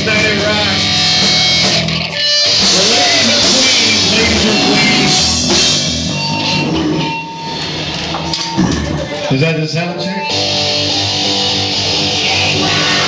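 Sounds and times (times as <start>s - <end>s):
electric guitar: 0.0s - 13.0s
loud rock music: 0.0s - 13.0s.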